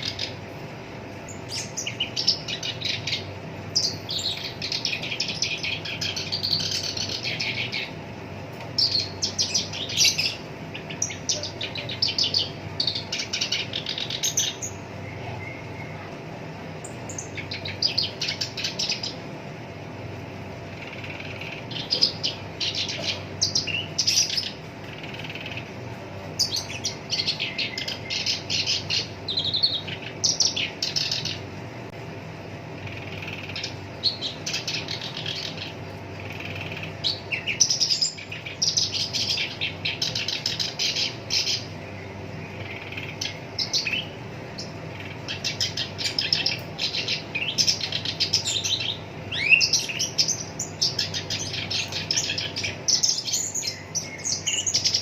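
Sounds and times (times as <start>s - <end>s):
warbler singing: 0.0s - 55.0s.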